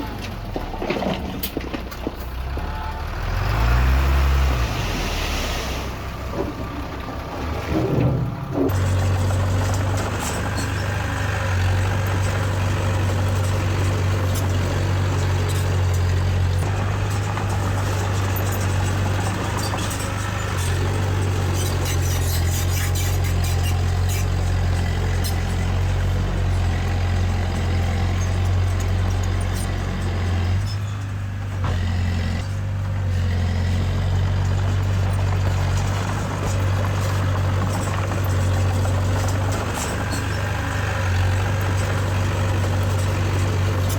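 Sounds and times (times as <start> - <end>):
heavy machinery diesel engine: 0.0 - 43.9.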